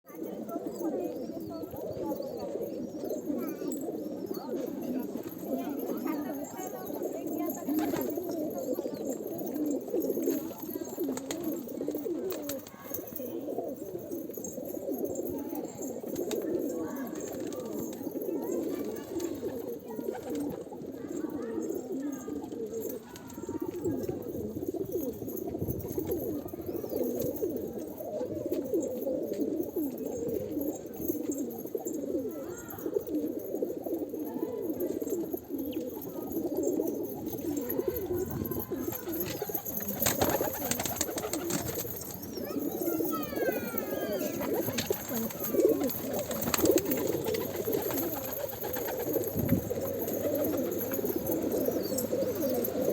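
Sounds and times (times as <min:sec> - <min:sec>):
pigeons cooing: 0:00.1 - 0:52.9.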